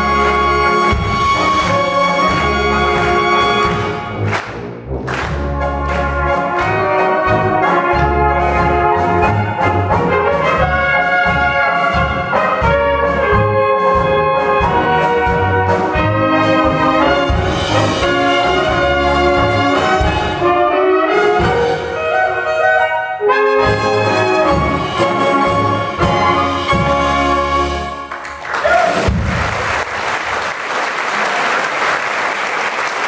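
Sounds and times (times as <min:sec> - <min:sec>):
brass band playing polka: 0:00.0 - 0:29.5.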